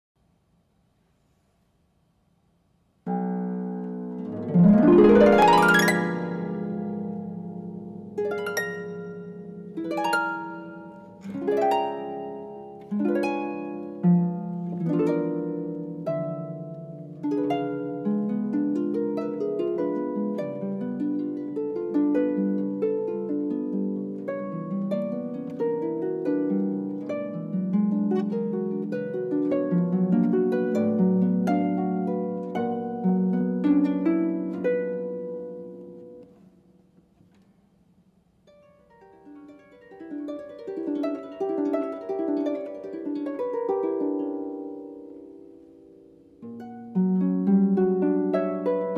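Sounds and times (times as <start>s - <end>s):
solo harp playing: 3.0s - 37.4s, 38.4s - 48.9s.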